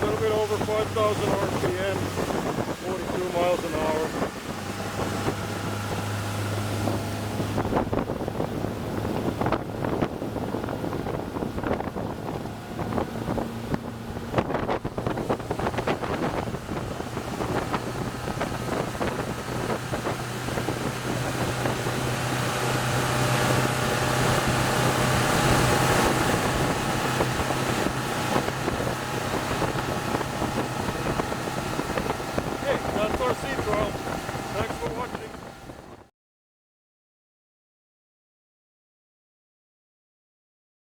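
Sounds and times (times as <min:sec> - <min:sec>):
outboard engine drone: 0:00.0 - 0:36.1
wind noise on microphone: 0:00.0 - 0:36.1.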